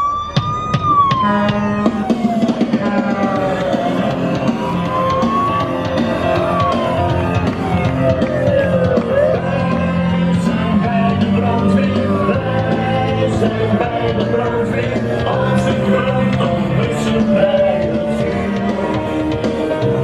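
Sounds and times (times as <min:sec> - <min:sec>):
siren-like wail: 0:00.0 - 0:20.0
rock music with drums and guitar: 0:00.3 - 0:20.0.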